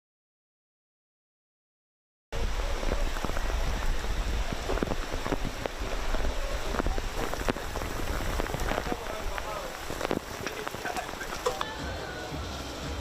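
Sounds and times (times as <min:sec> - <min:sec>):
heavy rain pouring: 0:02.4 - 0:13.0.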